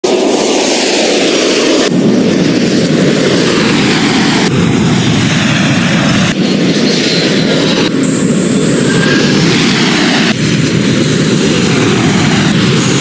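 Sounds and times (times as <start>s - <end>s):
jet airliner engine noise: 0.0s - 13.0s.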